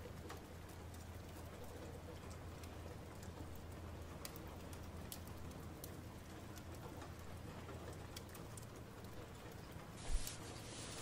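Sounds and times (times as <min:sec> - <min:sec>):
faint crackling ticks: 0:00.0 - 0:10.6
low ambient hum: 0:00.0 - 0:11.0.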